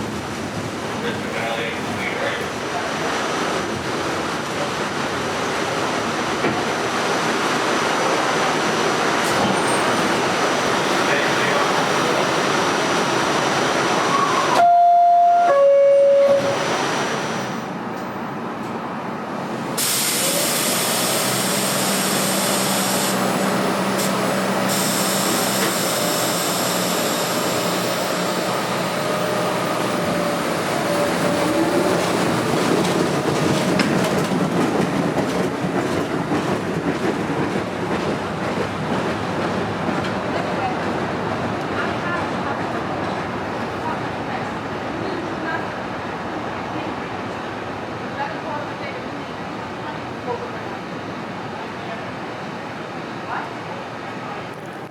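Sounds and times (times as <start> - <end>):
subway train rumbling: 0.0 - 54.9.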